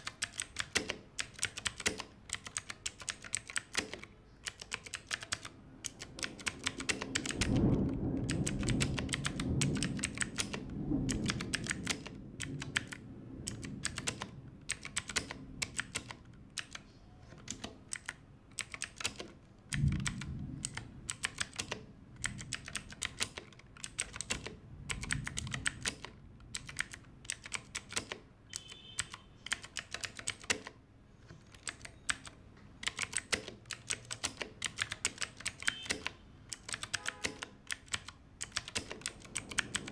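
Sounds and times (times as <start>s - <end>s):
mechanical keyboard typing: 0.0s - 30.8s, 31.5s - 39.9s.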